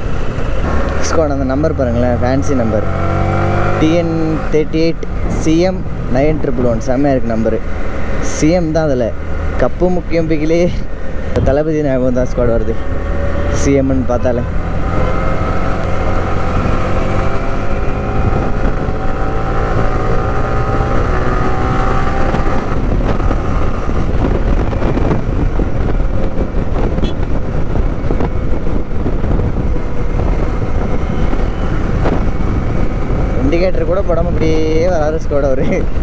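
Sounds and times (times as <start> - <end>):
wind buffeting microphone: 0.0 - 13.6, 14.4 - 36.0
road noise: 0.0 - 36.0.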